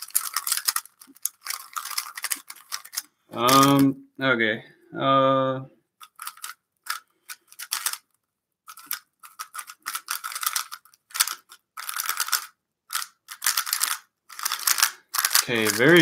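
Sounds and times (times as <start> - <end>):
puzzle cube plastic clicking: 0.0 - 3.9, 6.0 - 16.0.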